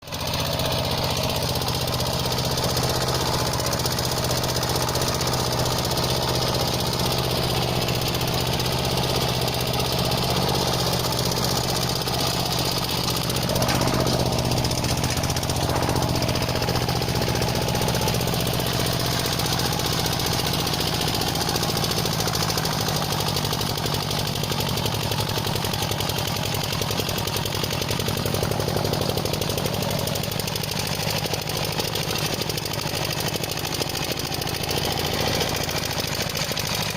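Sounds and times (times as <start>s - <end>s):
walking tractor engine knocking: 0.0s - 36.9s.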